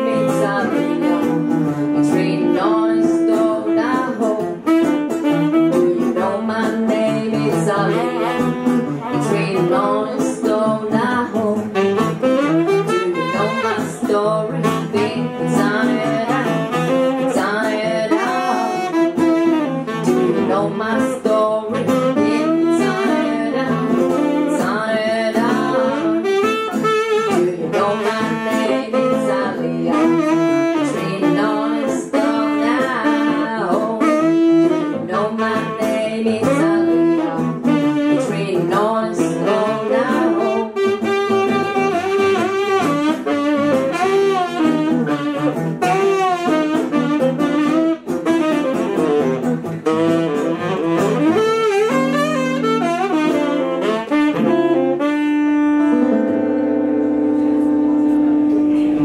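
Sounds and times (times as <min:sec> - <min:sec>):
instrumental accompaniment: 0:00.0 - 0:59.0
saxophone solo: 0:00.0 - 0:59.0.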